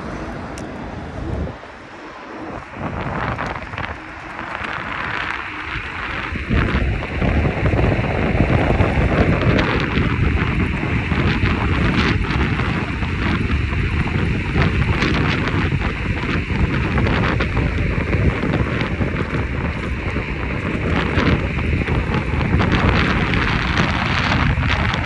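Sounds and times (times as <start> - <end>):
wind buffeting microphone: 0.0 - 25.0
faint crackles: 0.5 - 25.0.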